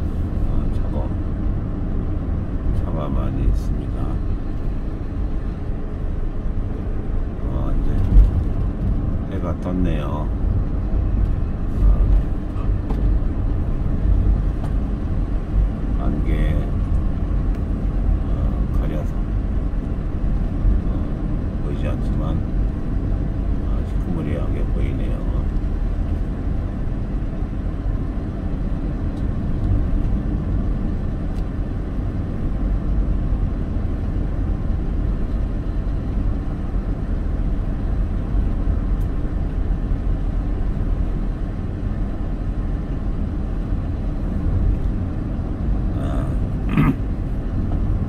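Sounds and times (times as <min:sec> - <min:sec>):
car driving rumble: 0:00.0 - 0:48.0.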